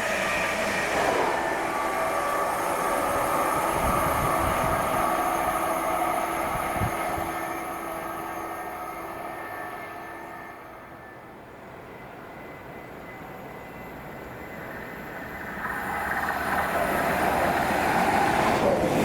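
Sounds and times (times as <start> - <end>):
train rumbling past: 0.0 - 19.0
train whining tones: 0.0 - 19.0.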